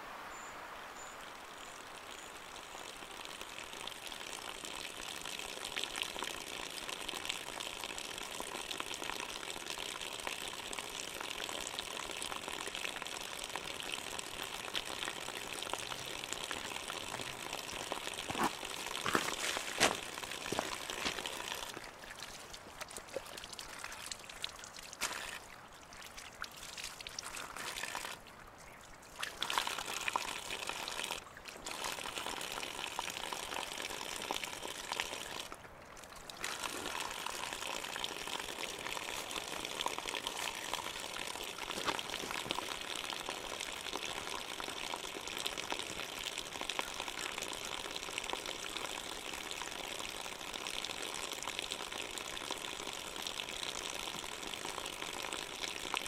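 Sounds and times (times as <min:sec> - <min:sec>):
water pouring and splashing: 0:01.9 - 0:56.0.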